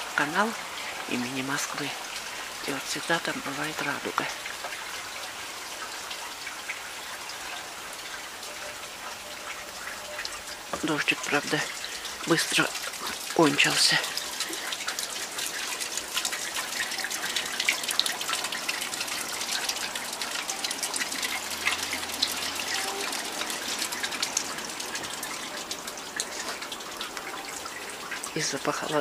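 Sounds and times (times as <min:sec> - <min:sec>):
rainwater dripping: 0:00.0 - 0:29.0.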